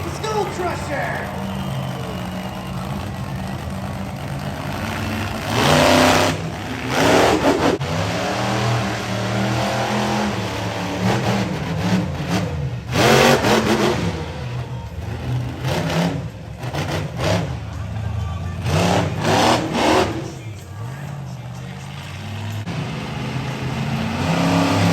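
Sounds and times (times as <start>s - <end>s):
monster truck engine revving: 0.0s - 24.9s.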